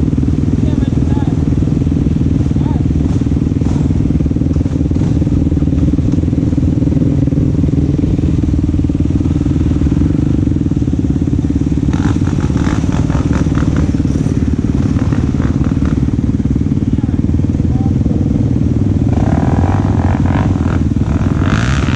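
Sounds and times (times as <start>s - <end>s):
atv engine running: 0.0s - 21.9s.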